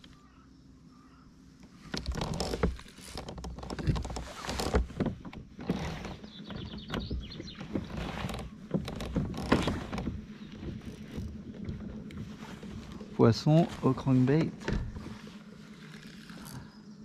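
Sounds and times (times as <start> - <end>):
knocks and rubbing against hull: 1.7 - 16.5.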